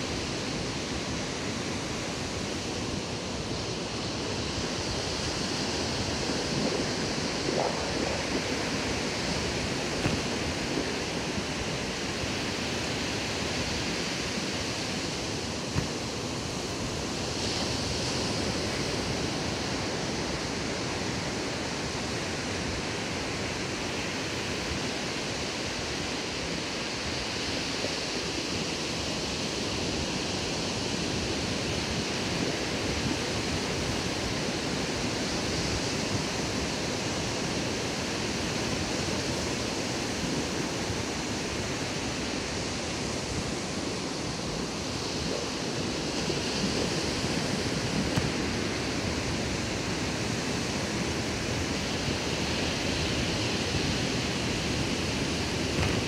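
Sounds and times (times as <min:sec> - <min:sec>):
ocean surf breaking on beach: 0:00.0 - 0:56.0
wind: 0:00.0 - 0:56.0.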